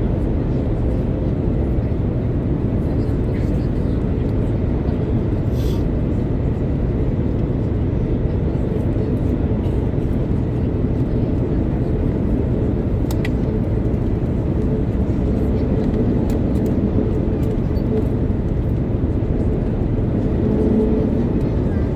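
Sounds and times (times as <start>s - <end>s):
airplane cabin roar: 0.0s - 21.9s.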